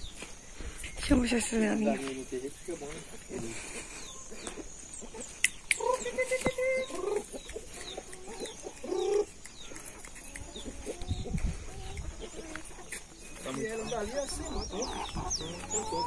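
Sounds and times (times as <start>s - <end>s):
chickens clucking: 0.9s - 16.0s.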